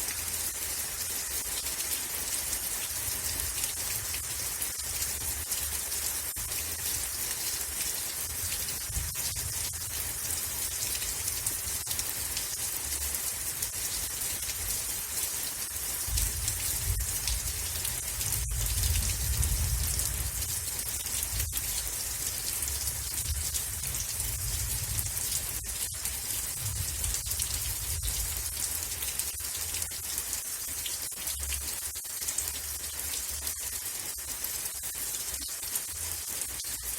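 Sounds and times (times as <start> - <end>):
rain patter: 0.0 - 36.9.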